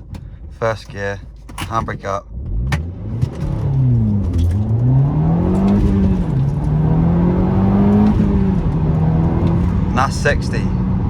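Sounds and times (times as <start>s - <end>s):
car engine accelerating hard: 1.6s - 11.0s.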